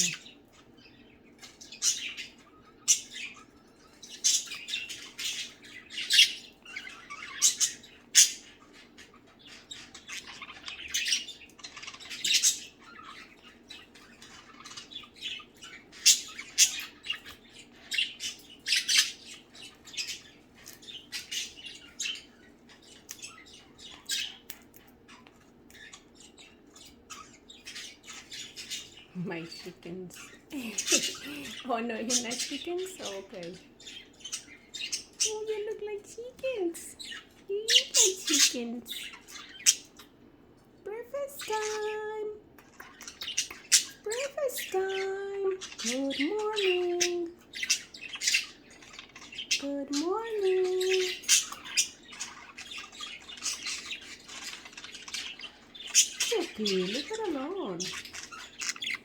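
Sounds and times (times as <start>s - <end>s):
budgerigars chirping and squawking: 0.0s - 59.0s
faint low hum: 0.0s - 59.0s.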